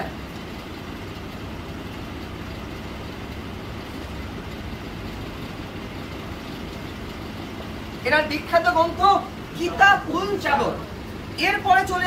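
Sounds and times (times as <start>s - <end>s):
low rumbling classroom background: 0.0s - 12.0s.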